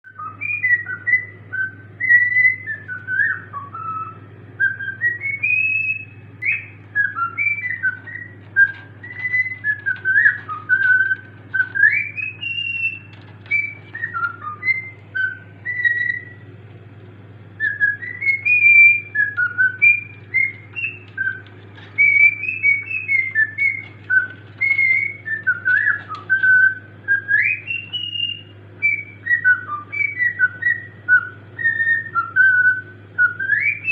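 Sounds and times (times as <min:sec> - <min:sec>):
steady low hum: 0:00.0 - 0:33.9
cockatiel whistling: 0:00.1 - 0:16.5, 0:17.6 - 0:33.9.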